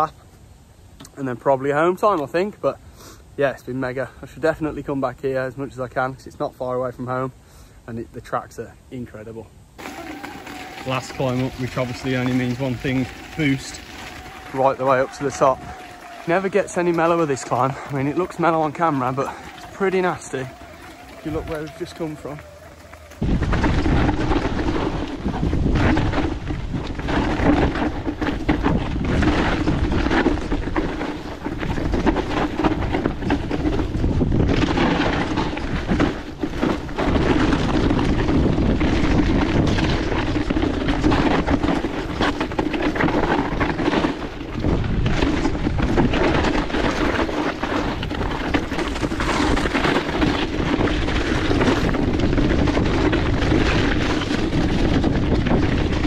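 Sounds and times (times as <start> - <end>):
wind buffeting microphone: 9.8 - 56.0.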